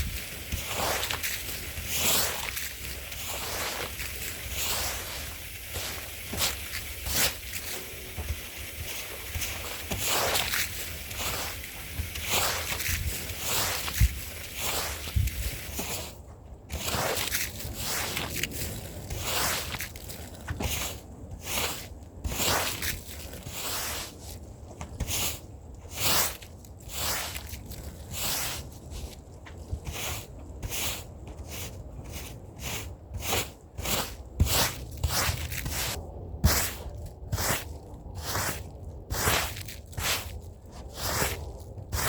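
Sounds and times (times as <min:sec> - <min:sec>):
brush scrubbing a rug: 0:00.0 - 0:24.4, 0:25.0 - 0:42.0.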